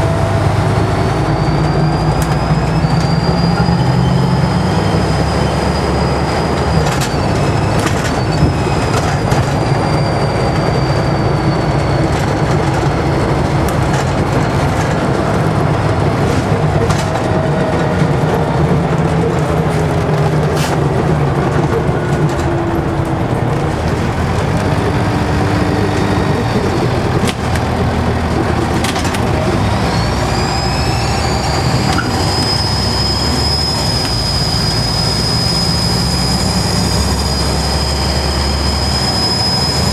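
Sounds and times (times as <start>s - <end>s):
bus body rattle: 0.0s - 39.9s
diesel engine droning: 0.0s - 39.9s
turbocharger whistling: 0.0s - 39.9s.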